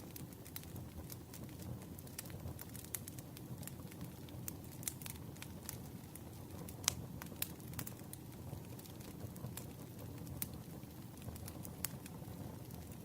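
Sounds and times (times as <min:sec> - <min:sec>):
low rumble of flame: 0:00.0 - 0:13.0.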